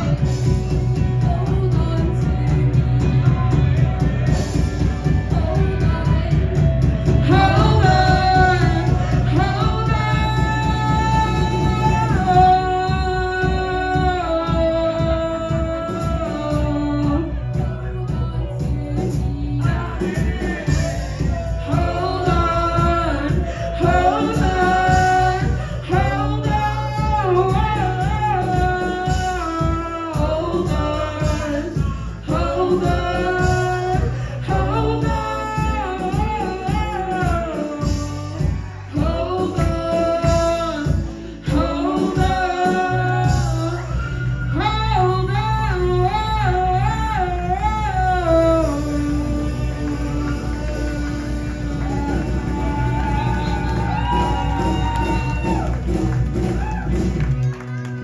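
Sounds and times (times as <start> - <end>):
woman singing with vibrato: 0.0 - 55.7
live band playing: 0.0 - 58.0.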